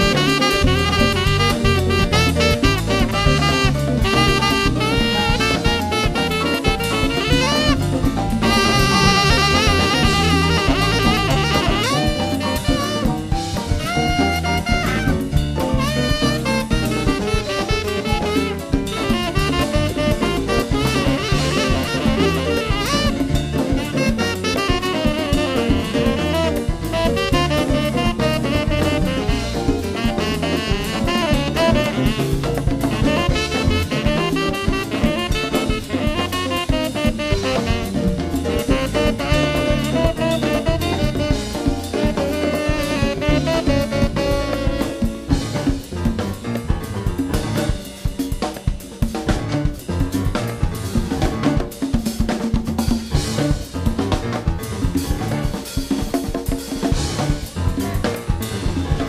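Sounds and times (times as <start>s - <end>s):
saxophone lead: 0.0s - 56.1s, 56.8s - 59.0s
latin jazz band playing: 0.0s - 59.0s.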